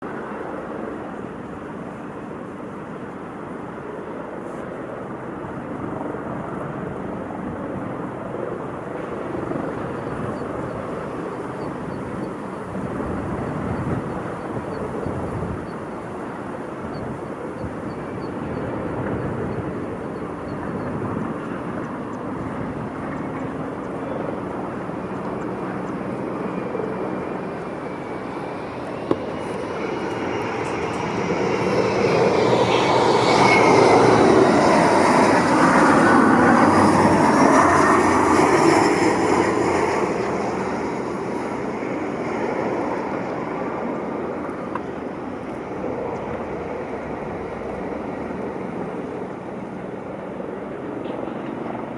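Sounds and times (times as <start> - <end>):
jet engines whining: 8.9 - 51.9.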